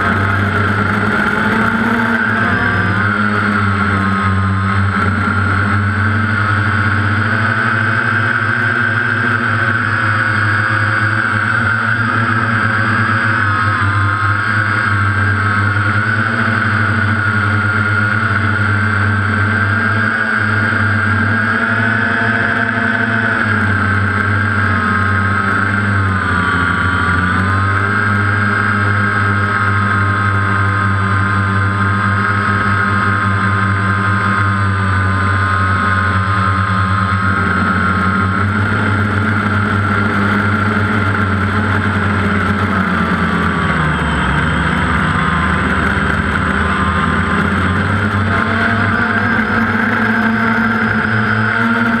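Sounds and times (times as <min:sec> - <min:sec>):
drone propellers whirring: 0:00.0 - 0:52.0.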